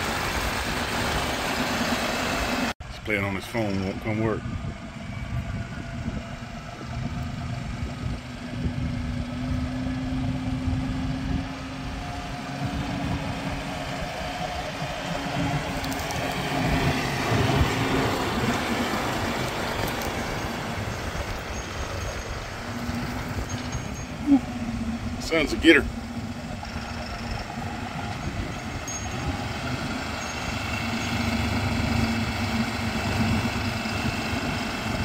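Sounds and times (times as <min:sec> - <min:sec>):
engine running with low rumble: 0:00.0 - 0:35.0.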